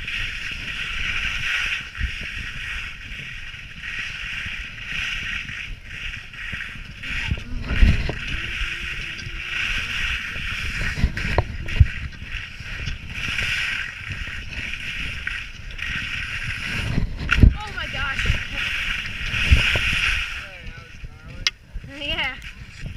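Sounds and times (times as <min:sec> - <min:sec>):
skis scraping over snow: 0:00.0 - 0:20.6
wind buffeting microphone: 0:00.0 - 0:22.9.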